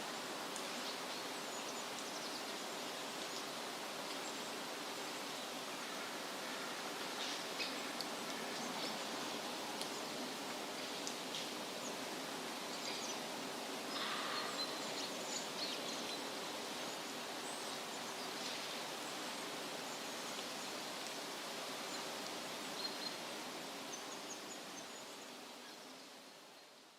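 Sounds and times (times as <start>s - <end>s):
steady rushing hiss: 0.0s - 26.9s.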